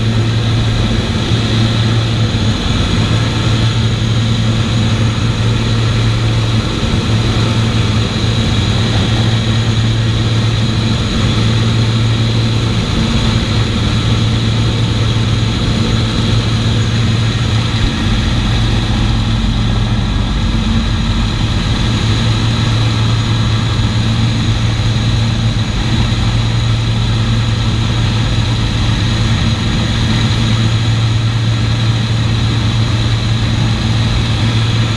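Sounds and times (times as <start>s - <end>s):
propeller aircraft engines droning: 0.0s - 34.9s.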